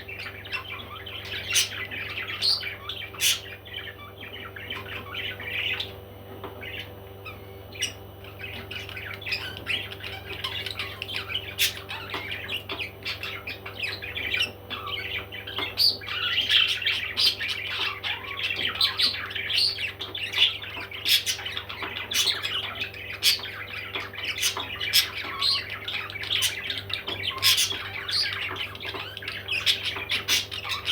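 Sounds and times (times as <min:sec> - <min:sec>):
parrots squawking and chattering: 0:00.0 - 0:30.9.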